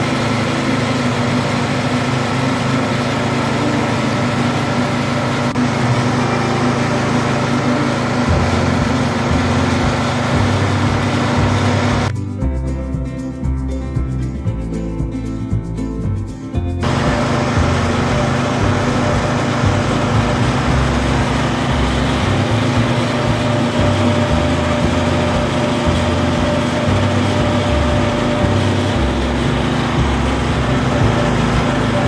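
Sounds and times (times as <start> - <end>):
lawn tractor engine running: 0.0 - 32.0
music: 0.0 - 32.0.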